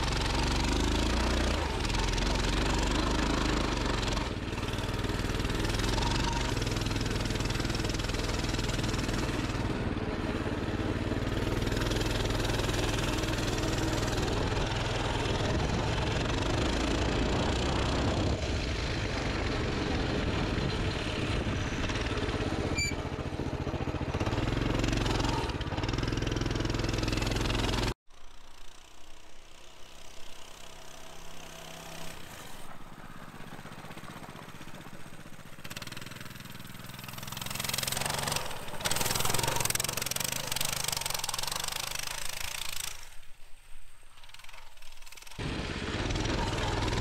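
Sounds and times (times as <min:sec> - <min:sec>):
pit bike engine revving: 0:00.0 - 0:28.0, 0:28.6 - 0:43.2, 0:44.3 - 0:47.0.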